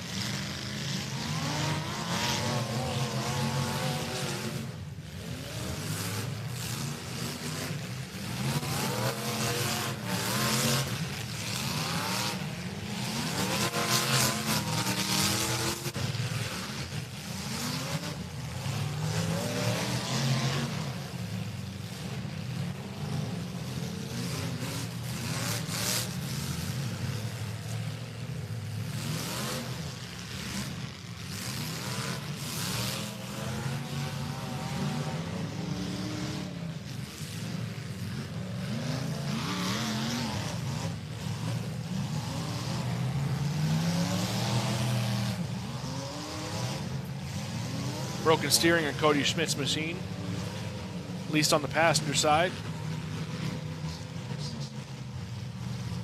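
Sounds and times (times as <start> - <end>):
car engines revving: 0.0 - 56.0
cars crunching and scraping: 0.0 - 56.0.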